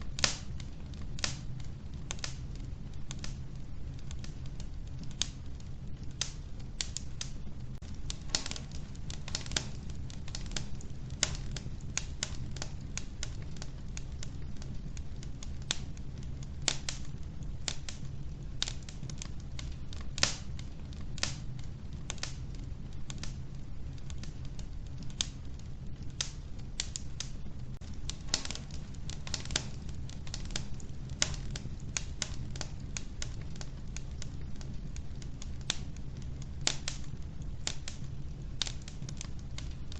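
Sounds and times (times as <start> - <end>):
wood fire crackling in a stove: 0.0 - 39.9.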